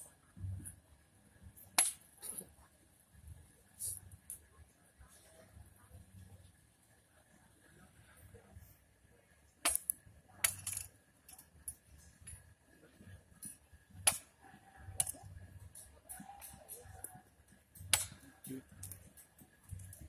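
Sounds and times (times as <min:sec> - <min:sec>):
faint low murmur: 0:00.0 - 0:20.0.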